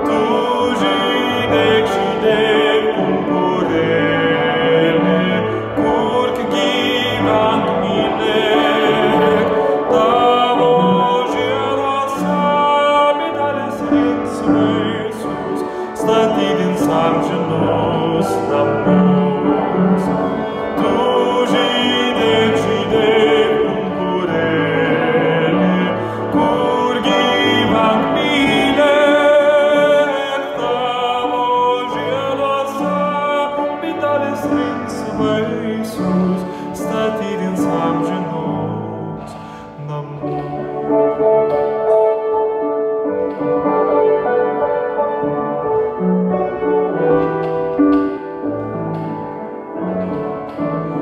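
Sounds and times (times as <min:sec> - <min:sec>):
man singing slow song: 0:00.0 - 0:42.3
instrumental accompaniment: 0:00.0 - 0:51.0.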